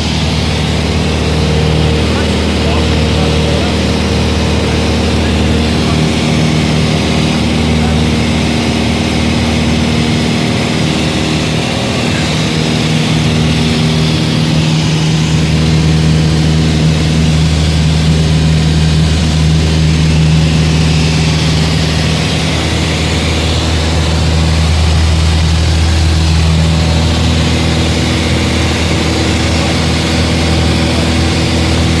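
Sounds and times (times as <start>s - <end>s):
propeller airplane engine droning: 0.0s - 32.0s.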